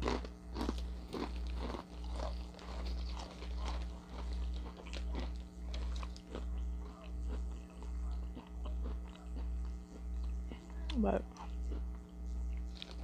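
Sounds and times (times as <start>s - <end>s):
crunching cracker chips: 0.0s - 13.0s
low hum: 0.0s - 13.0s.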